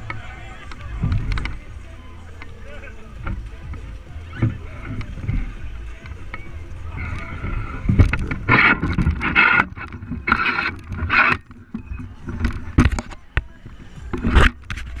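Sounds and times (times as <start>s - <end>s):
rhythmic rushes of noise: 0.0s - 15.0s.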